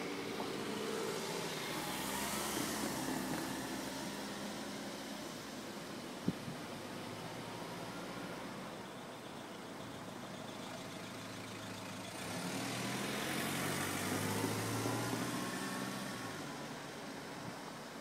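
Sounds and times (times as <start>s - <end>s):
vehicle engine hum passing by: 0.0s - 6.0s, 6.8s - 18.0s.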